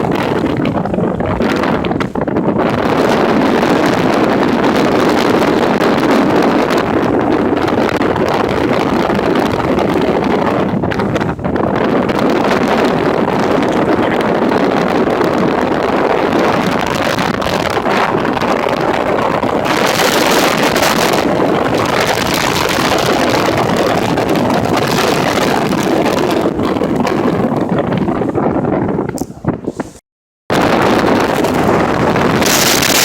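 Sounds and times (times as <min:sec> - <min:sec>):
strong wind buffeting microphone: 0:00.0 - 0:33.0.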